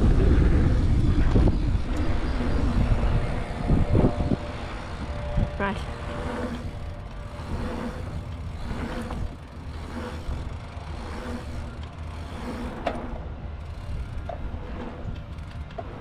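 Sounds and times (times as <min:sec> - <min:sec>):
bike tyres rumbling on dirt: 0:00.0 - 0:16.0
wind on microphone: 0:00.0 - 0:16.0.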